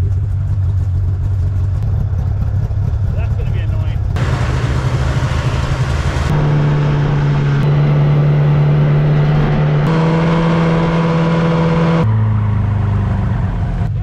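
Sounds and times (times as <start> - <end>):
snowmobile engine drone: 0.0 - 14.0.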